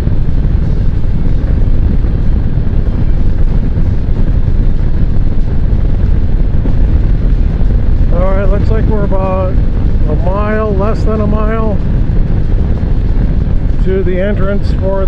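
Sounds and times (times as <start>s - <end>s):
motorcycle low running noise: 0.0s - 15.0s
wind buffeting microphone: 0.0s - 15.0s.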